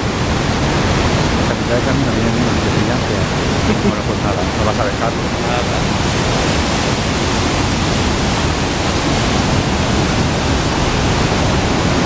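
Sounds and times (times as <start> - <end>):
white water rushing through gorge: 0.0 - 12.0.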